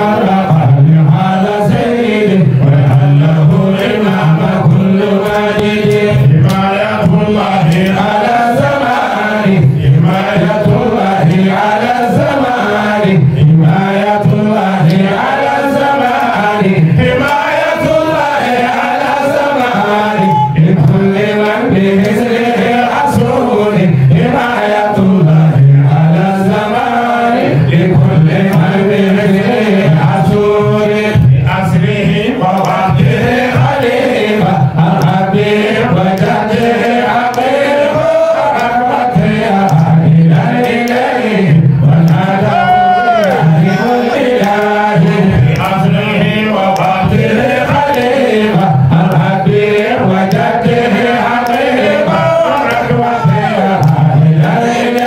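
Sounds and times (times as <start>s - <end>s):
man chanting into a microphone: 0.0s - 55.0s.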